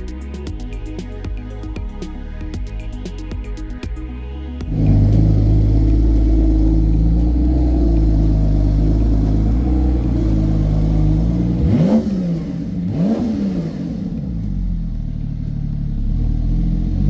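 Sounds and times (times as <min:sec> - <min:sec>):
sports car engine idling and revving: 0:00.0 - 0:17.0.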